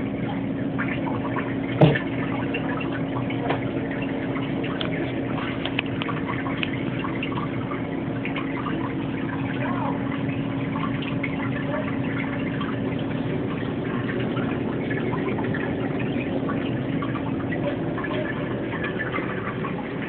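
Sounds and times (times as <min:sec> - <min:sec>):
aquarium water trickling and splashing: 0:00.0 - 0:20.0.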